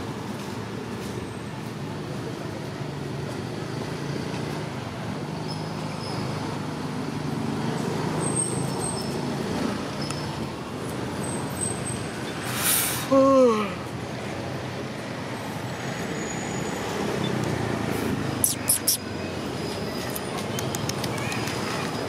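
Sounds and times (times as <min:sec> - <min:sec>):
distant traffic rumble: 0:00.0 - 0:22.0.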